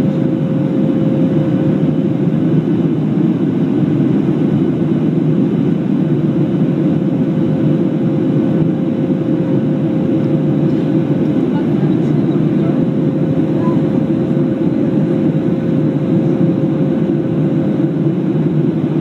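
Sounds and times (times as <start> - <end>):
jet airliner cabin roar: 0.0 - 19.0.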